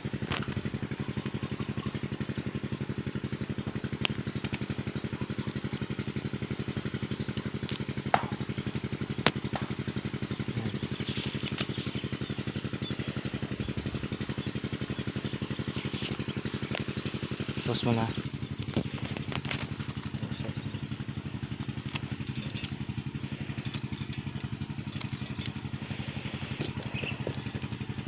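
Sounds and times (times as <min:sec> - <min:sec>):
small engine idling: 0:00.0 - 0:28.0.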